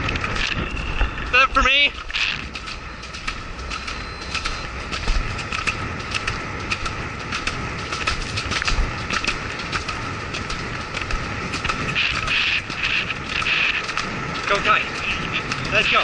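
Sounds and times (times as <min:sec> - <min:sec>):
horse hoofbeats on grass: 0:00.0 - 0:16.0
wind rushing past on horseback: 0:00.0 - 0:16.0.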